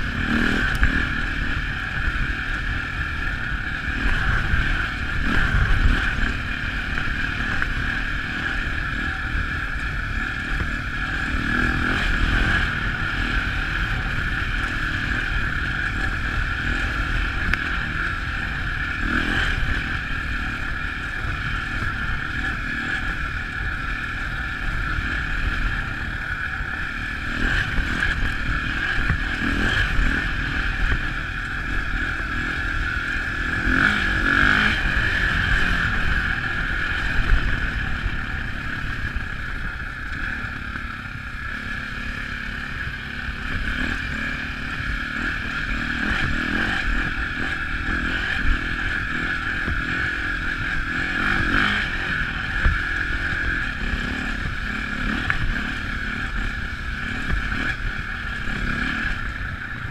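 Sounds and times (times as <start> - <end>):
dirt bike engine running: 0.0 - 59.9
wind rumble on microphone: 0.0 - 59.9.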